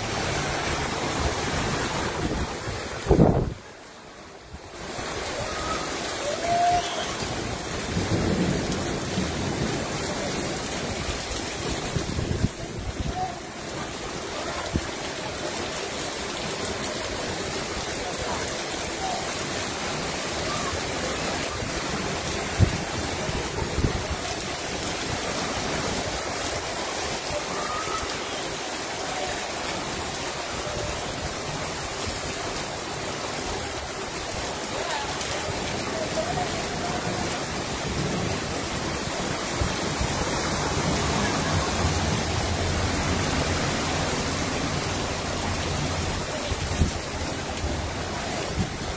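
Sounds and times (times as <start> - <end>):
floodwater running: 0.0 - 48.9
heavy rain pouring: 0.0 - 48.9.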